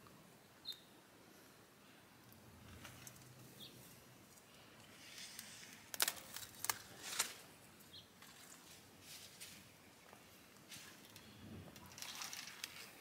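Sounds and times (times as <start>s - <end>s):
leafy greens rustling and crackling: 2.3s - 13.0s.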